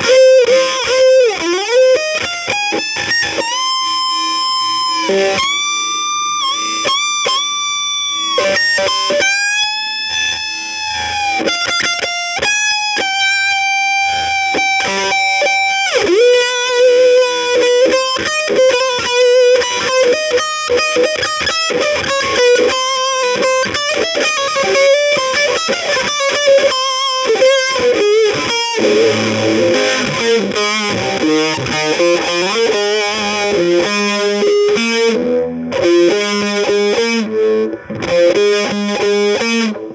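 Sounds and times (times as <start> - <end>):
electric guitar instrumental: 0.0 - 39.9.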